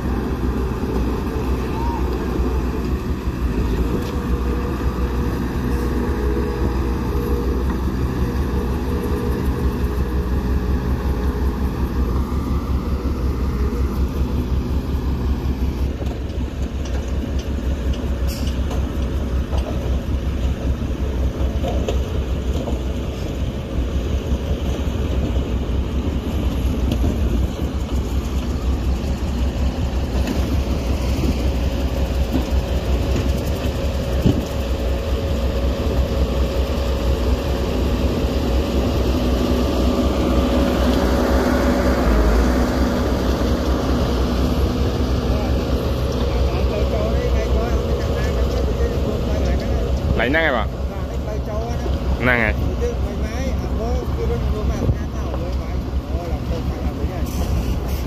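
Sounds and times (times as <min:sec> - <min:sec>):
steady whine: 0:00.0 - 0:57.9
diesel machinery engines rumbling: 0:00.0 - 0:58.0.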